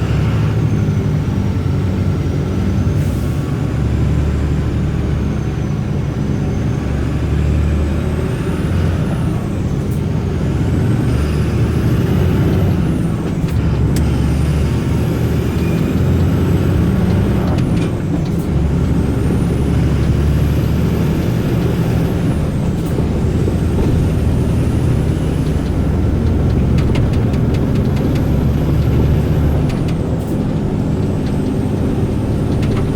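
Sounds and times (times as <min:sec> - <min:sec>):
diesel engine rumble: 0:00.0 - 0:32.9.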